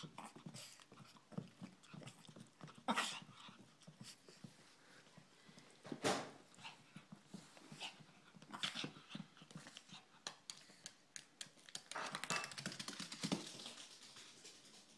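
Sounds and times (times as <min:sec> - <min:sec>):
dog panting and sniffing: 0:00.0 - 0:05.8, 0:06.4 - 0:14.8.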